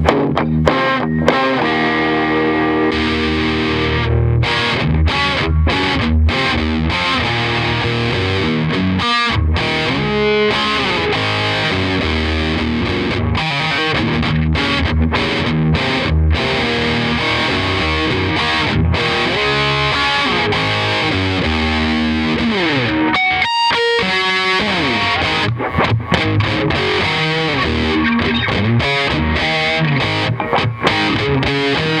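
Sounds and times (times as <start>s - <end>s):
distorted electric guitar lead: 0.0s - 32.0s.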